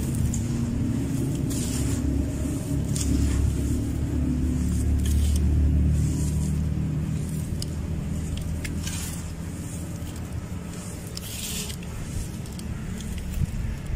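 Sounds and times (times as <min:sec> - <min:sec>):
dry sand mix crunching by hand: 0:00.0 - 0:13.9
low rumble: 0:00.0 - 0:13.9.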